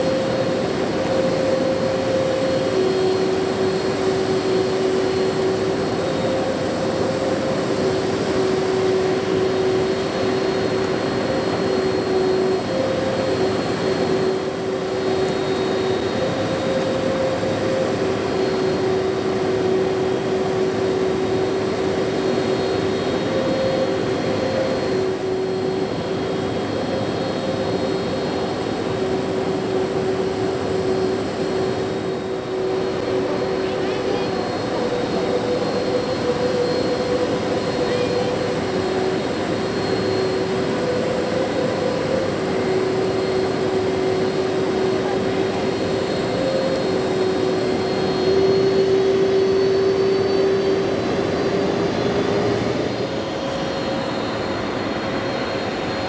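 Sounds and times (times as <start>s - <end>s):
high-pitched engine whine: 0.0s - 56.0s
jet engine running: 0.0s - 56.0s.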